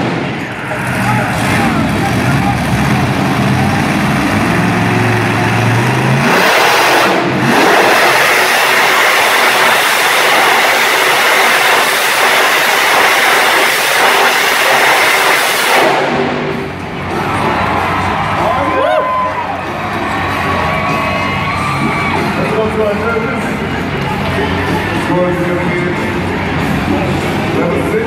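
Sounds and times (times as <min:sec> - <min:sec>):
monster truck engine revving: 0:00.0 - 0:28.0.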